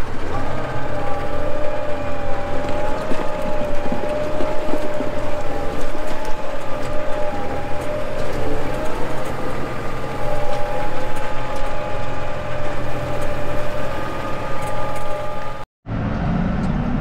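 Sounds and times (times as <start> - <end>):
engine whine: 0.0 - 17.0
tractor diesel engine running: 0.0 - 17.0.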